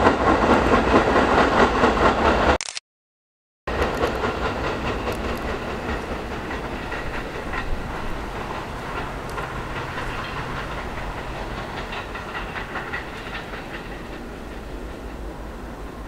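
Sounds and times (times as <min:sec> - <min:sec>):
train rumble: 0:00.0 - 0:02.6, 0:03.7 - 0:16.0
train wheels clicking over rail joints: 0:00.0 - 0:02.6, 0:03.7 - 0:16.0.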